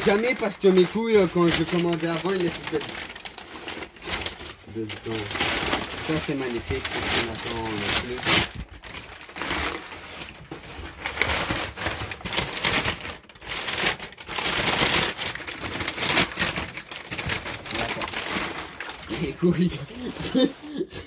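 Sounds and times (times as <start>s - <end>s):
packing paper rustling and crinkling: 0.0s - 21.0s.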